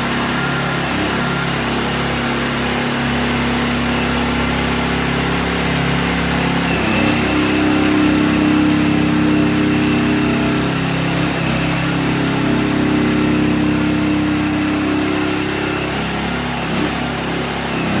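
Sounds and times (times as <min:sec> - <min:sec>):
excavator petrol engine running: 0:00.0 - 0:18.0.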